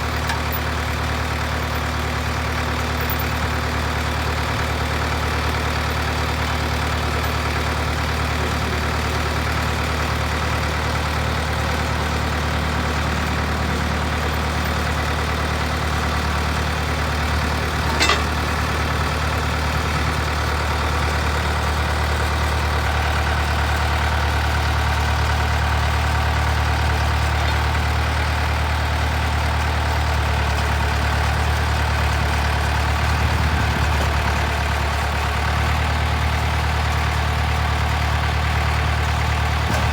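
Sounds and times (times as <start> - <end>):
trencher engine idling: 0.0 - 39.9.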